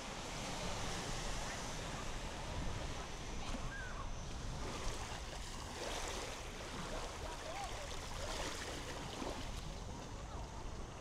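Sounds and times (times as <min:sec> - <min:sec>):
waves washing onto beach: 0:00.0 - 0:03.7, 0:04.4 - 0:11.0.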